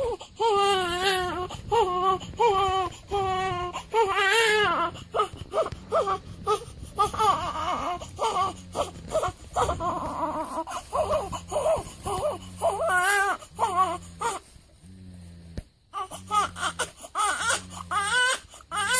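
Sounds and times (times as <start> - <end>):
newborn baby crying: 0.0 - 14.5, 15.9 - 18.9.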